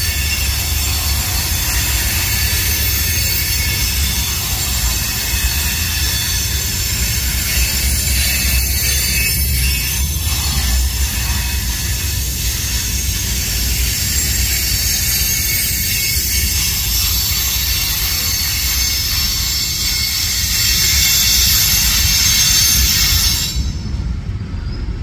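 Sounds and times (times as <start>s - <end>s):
freight train rumble: 0.0s - 25.0s
train wheels squealing: 0.0s - 25.0s.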